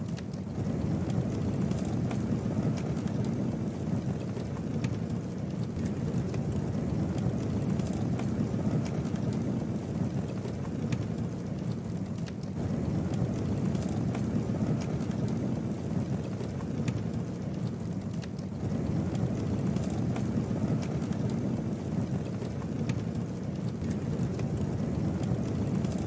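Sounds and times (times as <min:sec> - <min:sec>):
flames rushing: 0:00.0 - 0:26.0
wood crackling and popping: 0:00.0 - 0:26.0.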